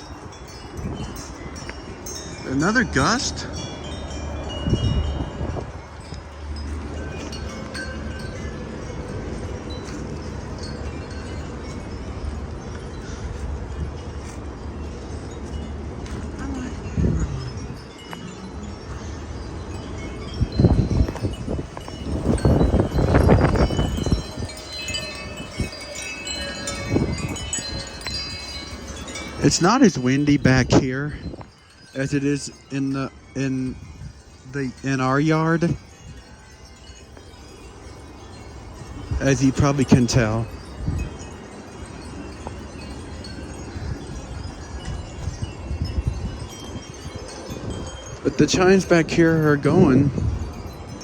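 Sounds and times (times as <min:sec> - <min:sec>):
wind buffeting microphone: 0:00.0 - 0:51.0
wind chimes ringing: 0:00.0 - 0:51.0.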